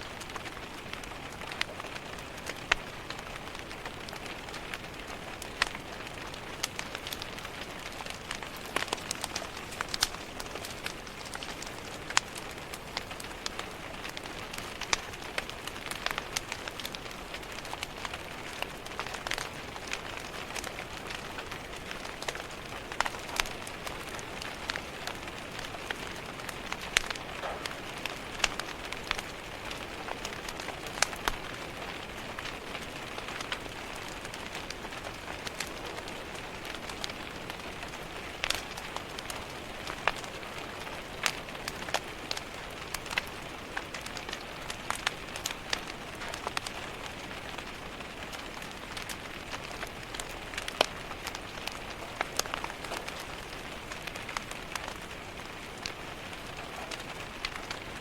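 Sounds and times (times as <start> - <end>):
rain pattering on a window: 0.0 - 58.0
wood fire crackling: 0.0 - 58.0.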